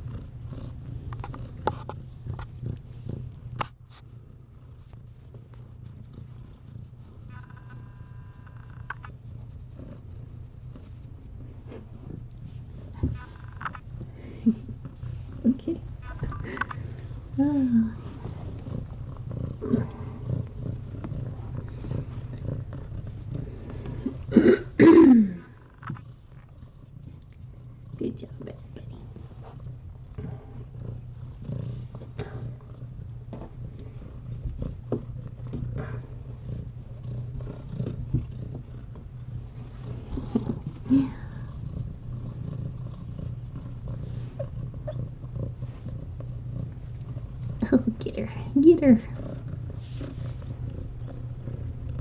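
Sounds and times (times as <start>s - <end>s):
small clicks and rustles: 0.0s - 24.3s, 25.4s - 27.8s, 28.4s - 48.0s
cat purring: 0.0s - 52.0s.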